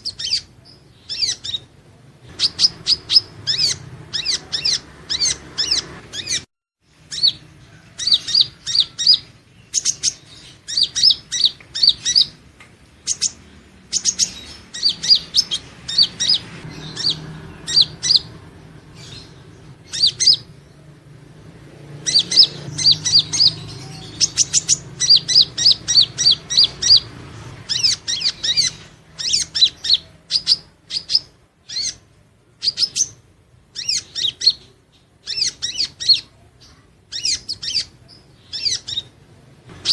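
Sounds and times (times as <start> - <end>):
bird singing high thin chirps: 0.0 - 1.7, 2.3 - 20.6, 22.0 - 39.2.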